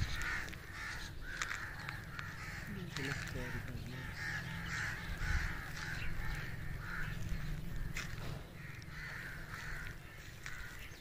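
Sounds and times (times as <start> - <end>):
steady low rumble: 0.0 - 10.9
crows cawing: 0.0 - 11.0.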